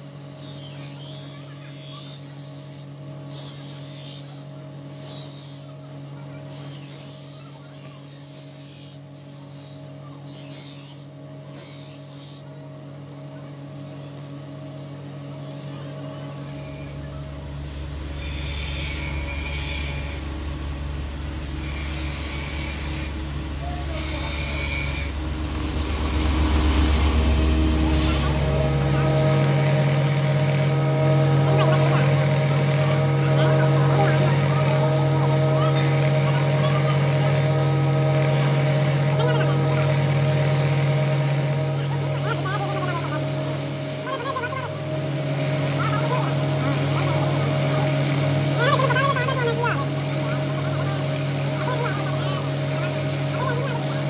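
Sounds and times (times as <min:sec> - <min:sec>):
blade rasping on grinding wheel: 0:00.0 - 0:54.0
grinder motor hum: 0:00.0 - 0:54.0.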